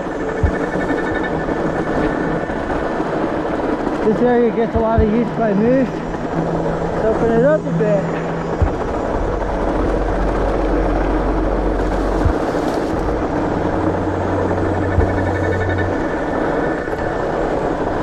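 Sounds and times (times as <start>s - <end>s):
fat tyres rolling on snow: 0.0s - 18.0s
wind rushing over microphone: 0.0s - 18.0s.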